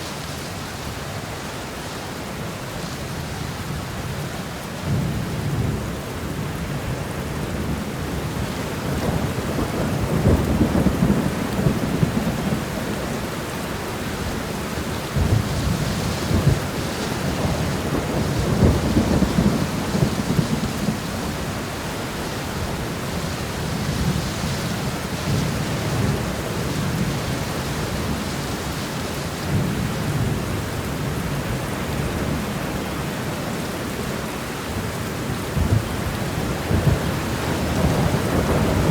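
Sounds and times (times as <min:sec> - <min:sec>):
heavy rain falling: 0:00.0 - 0:38.9
thunder rumbling: 0:04.8 - 0:34.1, 0:34.7 - 0:38.9.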